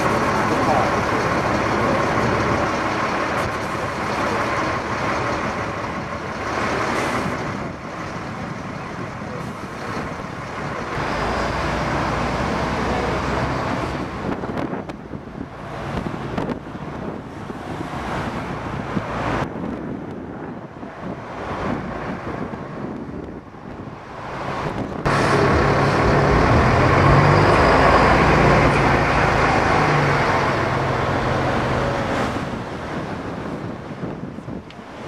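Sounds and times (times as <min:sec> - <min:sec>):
heavy vehicle low rumble: 0:00.0 - 0:35.0
vehicles passing: 0:00.0 - 0:35.0.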